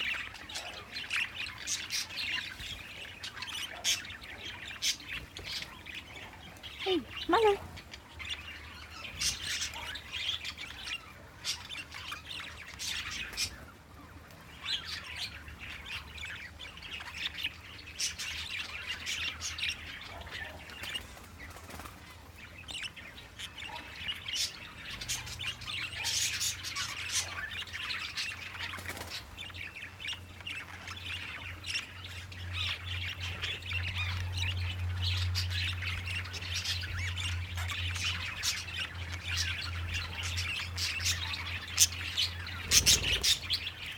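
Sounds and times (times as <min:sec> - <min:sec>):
budgerigars chirping and squawking: 0:00.0 - 0:43.9.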